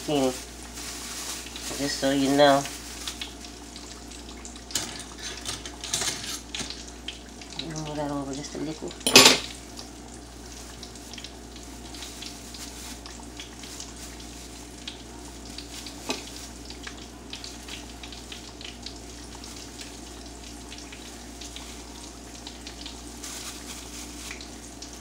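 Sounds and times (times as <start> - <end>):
batter frying in hot oil: 0.0 - 25.0.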